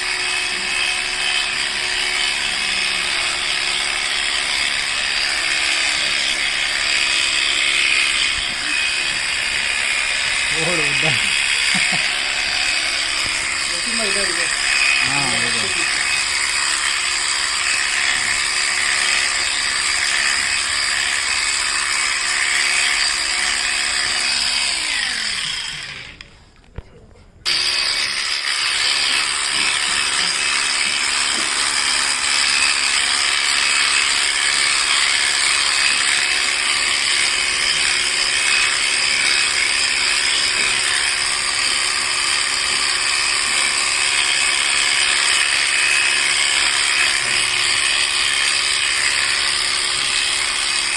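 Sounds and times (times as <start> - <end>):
electric clipper buzzing: 0.0 - 26.2, 27.5 - 50.9.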